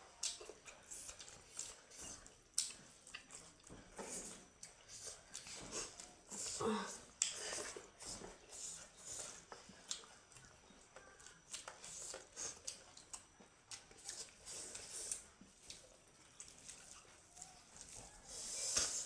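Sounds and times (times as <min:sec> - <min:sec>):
person chewing wetly: 0:00.0 - 0:19.0.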